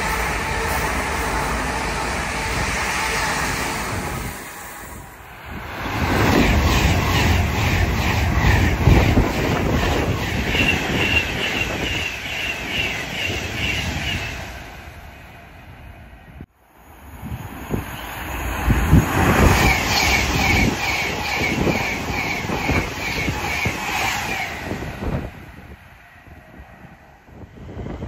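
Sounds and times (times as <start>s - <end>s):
electric trains passing at speed: 0.0s - 28.0s.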